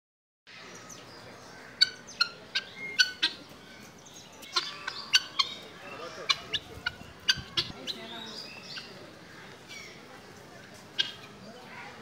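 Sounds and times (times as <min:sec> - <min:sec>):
guineafowl sharp calls: 0:01.5 - 0:10.1, 0:10.9 - 0:12.0.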